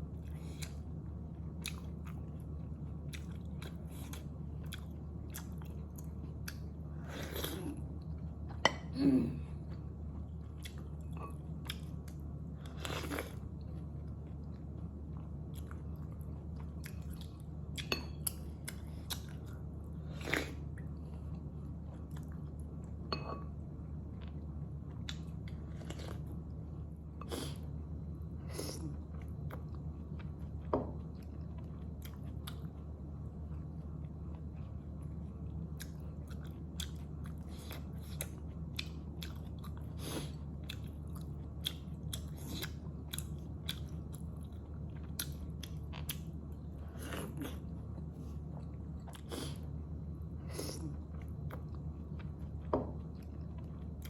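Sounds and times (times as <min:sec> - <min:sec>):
low hum: 0:00.0 - 0:54.0
chewing with wet smacks: 0:00.2 - 0:08.8, 0:09.6 - 0:23.0, 0:24.1 - 0:27.7, 0:28.5 - 0:49.8, 0:50.5 - 0:54.0.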